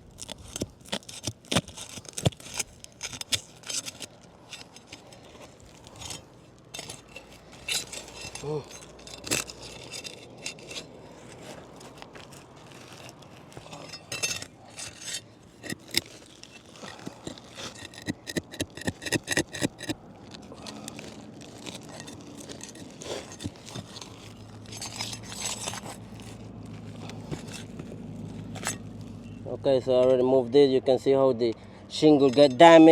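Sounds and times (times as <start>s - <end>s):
pry bar scraping roof shingles: 0.0s - 29.3s
low steady hum: 0.0s - 32.8s.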